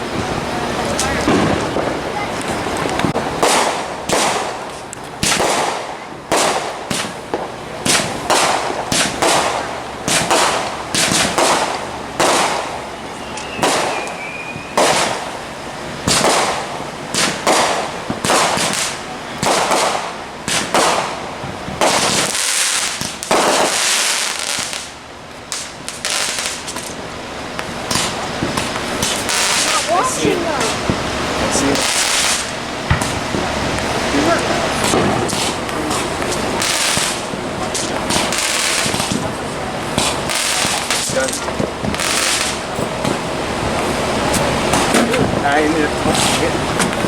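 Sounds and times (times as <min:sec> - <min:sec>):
fireworks banging: 0:00.0 - 0:47.0
fireworks hissing bursts: 0:00.0 - 0:47.0.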